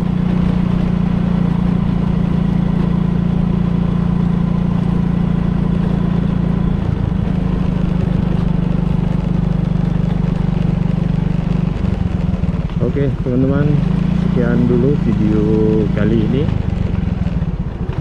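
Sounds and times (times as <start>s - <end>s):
small motorcycle engine running: 0.0s - 18.0s.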